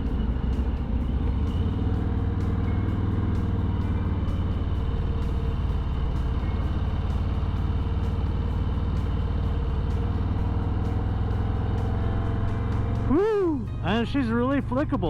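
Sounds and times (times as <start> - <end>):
motorcycle engine rumble: 0.0 - 15.0
road and wind noise: 0.0 - 15.0.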